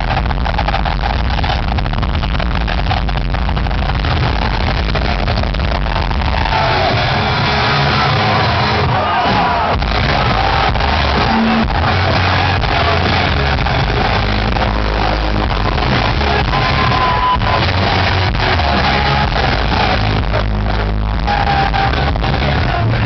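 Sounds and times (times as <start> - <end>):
fans shouting and whooping: 0.0 - 23.0
loud concert music over pa: 0.0 - 23.0.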